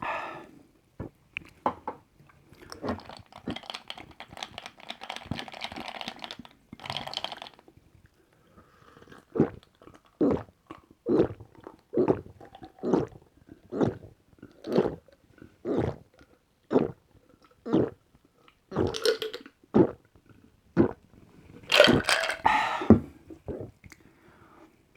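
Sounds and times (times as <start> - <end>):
person gulping a drink: 2.4 - 7.6, 8.9 - 24.0.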